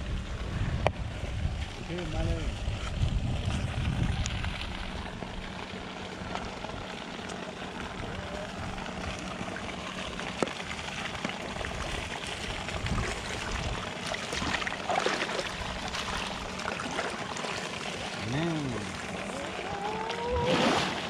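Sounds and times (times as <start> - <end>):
water splashing and pouring: 2.6 - 21.0.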